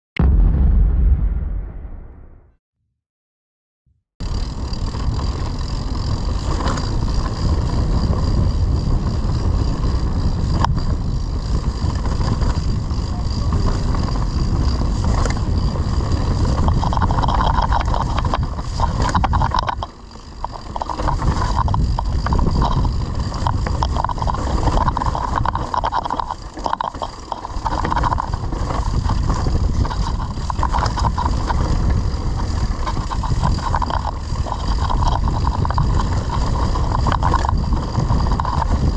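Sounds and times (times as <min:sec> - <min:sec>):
bike tyre and trail noise: 0:04.2 - 0:38.9
wind buffeting microphone: 0:04.5 - 0:38.9.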